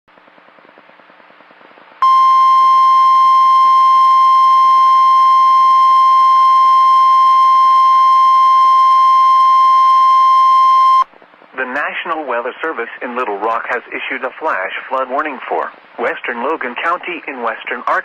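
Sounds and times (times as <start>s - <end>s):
faint radio static: 1.6s - 18.0s.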